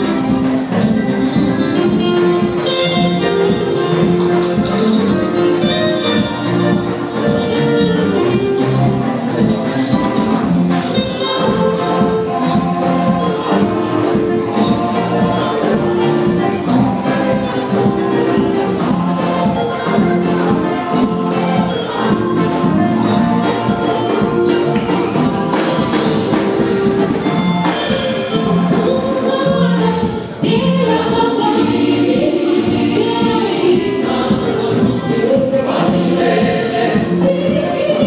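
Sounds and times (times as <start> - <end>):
amplified instrumental accompaniment: 0.0 - 38.0
choir singing through loudspeakers: 0.0 - 38.0.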